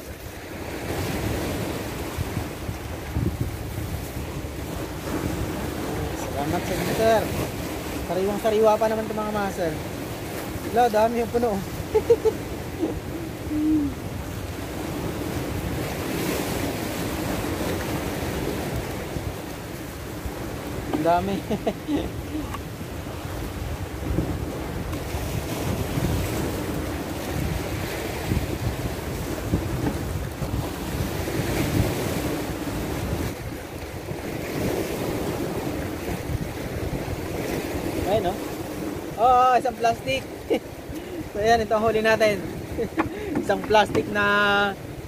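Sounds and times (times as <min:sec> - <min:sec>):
sea waves: 0:00.0 - 0:45.0
surf washing on shore: 0:00.0 - 0:45.0
wind buffeting microphone: 0:00.0 - 0:45.0.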